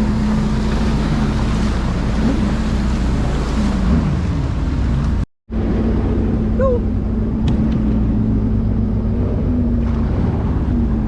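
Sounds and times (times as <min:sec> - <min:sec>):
jet ski engine running: 0:00.0 - 0:11.0
water rushing: 0:00.0 - 0:11.0.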